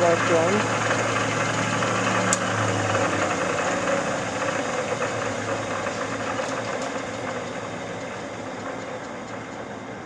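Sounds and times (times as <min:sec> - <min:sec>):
lathe motor humming: 0:00.0 - 0:10.0.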